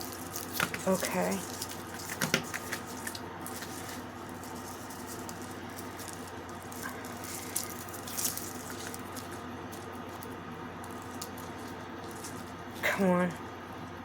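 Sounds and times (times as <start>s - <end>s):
velcro strips rustling: 0.0s - 12.8s
steady low hum: 0.0s - 14.0s.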